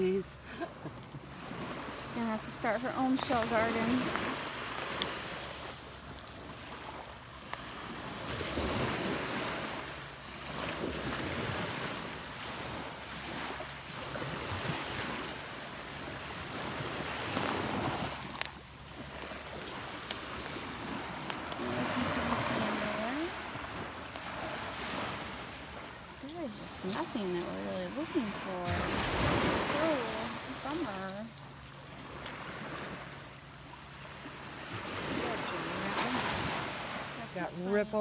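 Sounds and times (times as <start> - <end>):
small waves washing on beach: 0.0 - 38.0.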